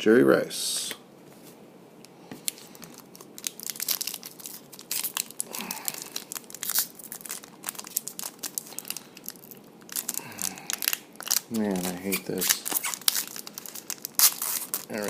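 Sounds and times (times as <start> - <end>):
plastic wrappers crinkling and tearing: 2.4 - 15.0.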